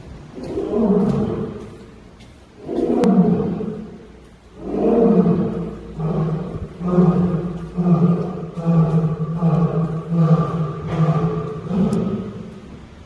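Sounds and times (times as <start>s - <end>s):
lion roaring: 0.3s - 2.0s, 2.6s - 12.8s.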